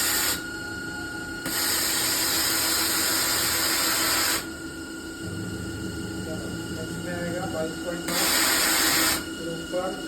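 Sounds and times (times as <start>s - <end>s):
machine hum: 0.0s - 10.0s
milling machine hiss: 0.0s - 10.0s.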